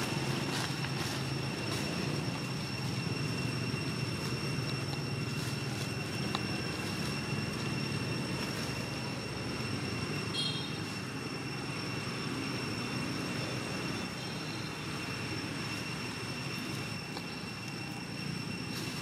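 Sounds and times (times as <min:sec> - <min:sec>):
thin high-pitched whine: 0:00.0 - 0:19.0.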